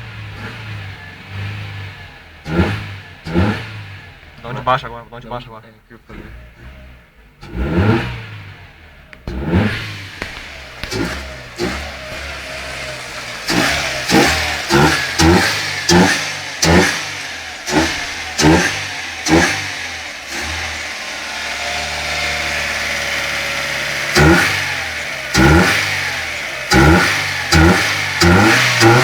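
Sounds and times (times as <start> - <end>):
car engine idling: 0.0 - 29.0
car engine revving: 0.0 - 29.0.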